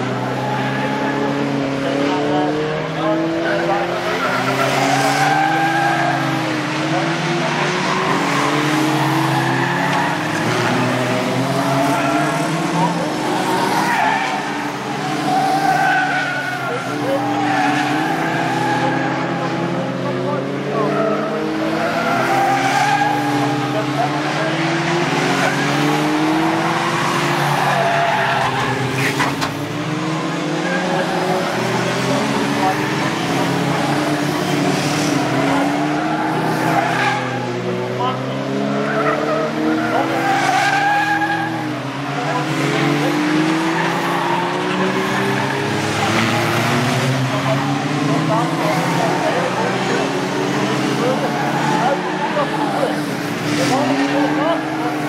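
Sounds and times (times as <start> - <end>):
racing car engines: 0.0 - 55.0
tyres skidding: 0.0 - 55.0.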